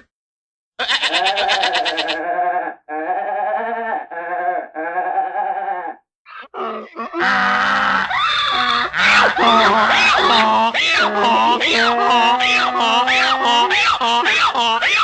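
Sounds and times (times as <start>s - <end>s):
wavering bleat-like animal calls: 0.8s - 15.0s.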